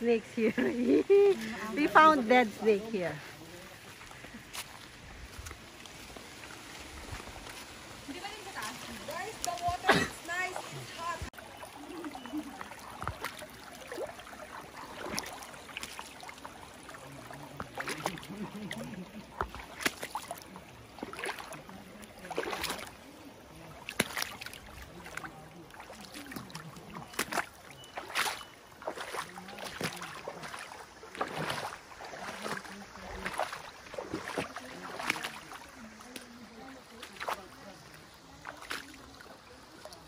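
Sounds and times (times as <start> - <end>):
water splashing and sloshing: 0.0 - 40.0.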